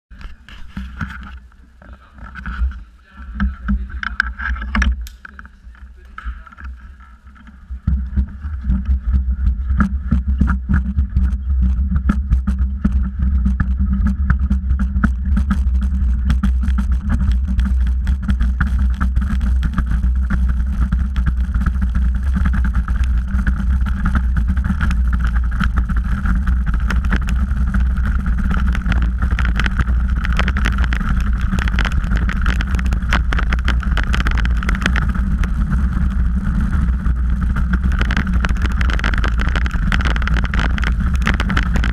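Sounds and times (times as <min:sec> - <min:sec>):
bobsleigh runners rumbling on ice: 0:00.2 - 0:41.9
knocks and rattles from vibration: 0:03.4 - 0:41.9.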